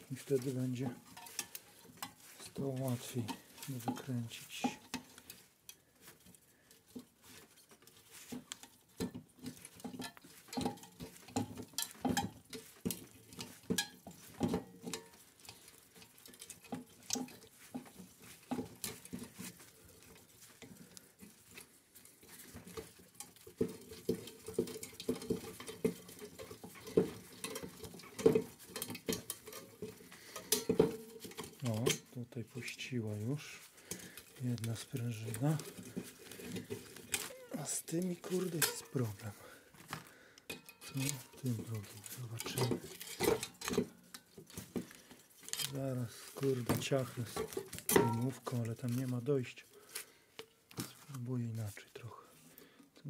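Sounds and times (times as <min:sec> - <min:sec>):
screwdriver scraping and tapping metal: 0:00.0 - 0:39.4, 0:40.4 - 0:49.2.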